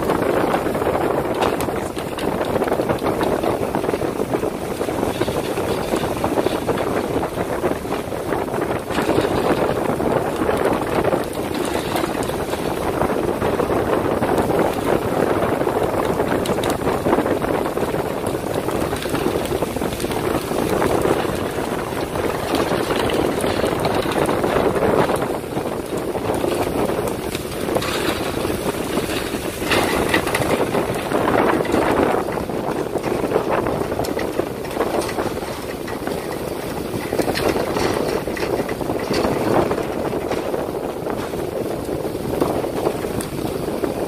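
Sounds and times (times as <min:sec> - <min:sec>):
steady rushing noise on boat: 0:00.0 - 0:44.0
wind buffeting microphone: 0:00.0 - 0:44.0.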